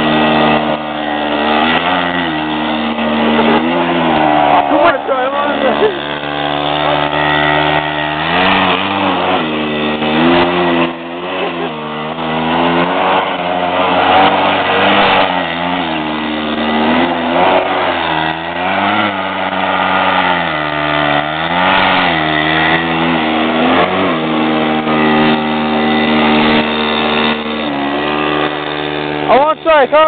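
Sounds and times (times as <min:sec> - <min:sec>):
mini bike engine revving: 0:00.0 - 0:30.0.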